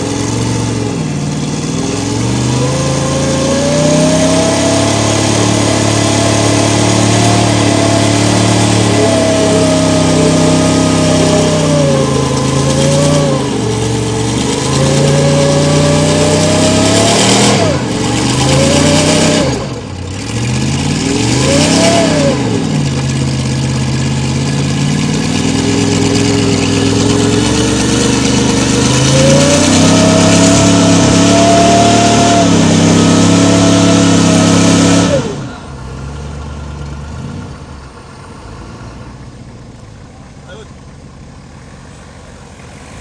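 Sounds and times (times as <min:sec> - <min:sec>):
engine revving under load: 0:00.0 - 0:40.7.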